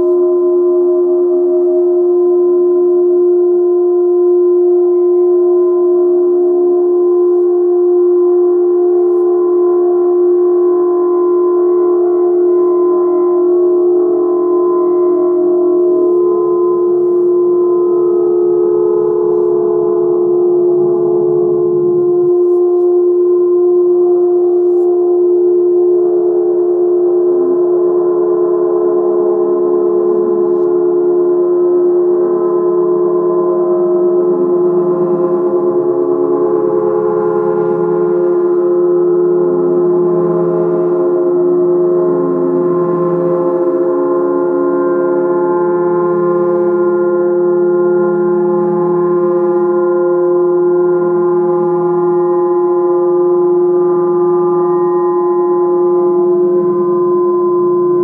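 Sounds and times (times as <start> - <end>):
reversed gong drone: 0.0 - 58.0.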